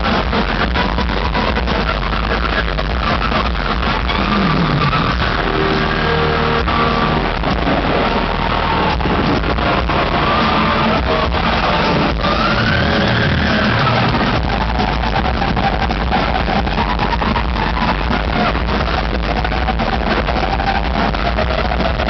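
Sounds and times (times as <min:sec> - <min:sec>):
distorted electric guitars: 0:00.0 - 0:22.0
fast pounding drums: 0:00.0 - 0:22.0.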